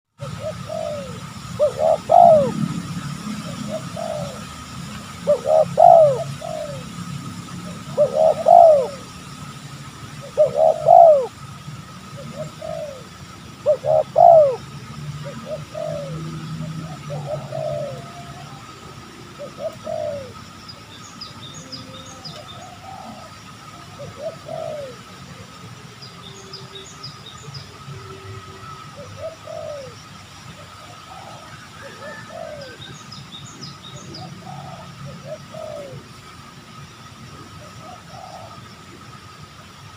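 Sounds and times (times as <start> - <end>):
doves cooing: 0.2 - 20.8, 21.4 - 39.6.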